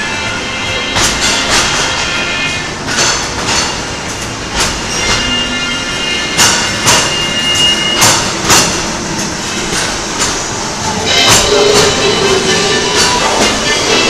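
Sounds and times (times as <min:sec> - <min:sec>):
train rumble: 0:00.0 - 0:14.0
train wheels clacking over rail joints: 0:00.6 - 0:14.0.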